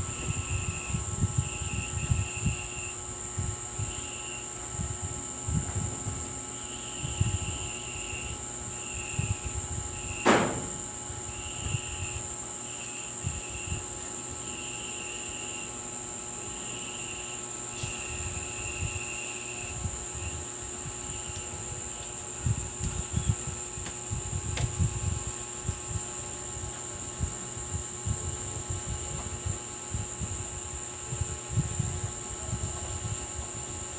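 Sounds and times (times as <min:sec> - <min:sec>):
insects chirping in trills: 0:00.0 - 0:33.9.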